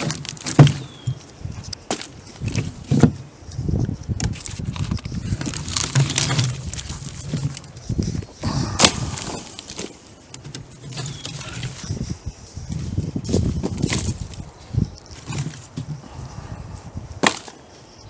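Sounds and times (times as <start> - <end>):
wood knocks and thuds: 0.0 - 3.2, 3.8 - 11.9, 12.7 - 14.4, 15.1 - 16.2, 17.2 - 17.6
twigs rustling and scraping: 0.0 - 18.0.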